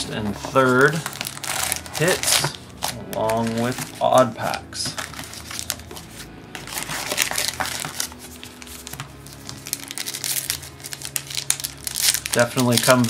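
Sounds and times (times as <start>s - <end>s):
card pack wrappers crinkling: 0.0s - 13.0s
wrapper tearing open: 0.8s - 13.0s.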